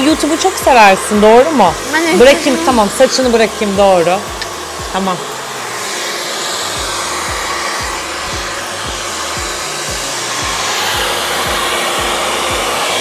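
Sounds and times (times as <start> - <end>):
hair dryer blowing: 0.0 - 13.0
low thumping beat: 0.2 - 5.4, 6.5 - 13.0.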